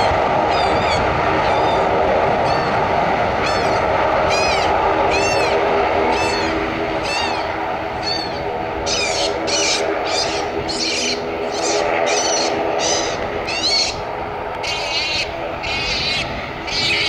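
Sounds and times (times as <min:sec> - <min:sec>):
high arching animal calls: 0:00.0 - 0:17.0
turboprop engines humming: 0:00.0 - 0:17.0.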